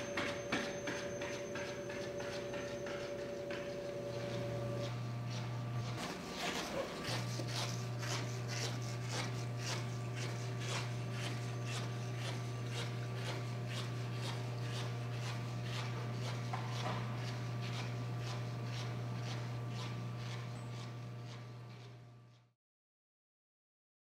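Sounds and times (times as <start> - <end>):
steady low hum: 0.0 - 22.4.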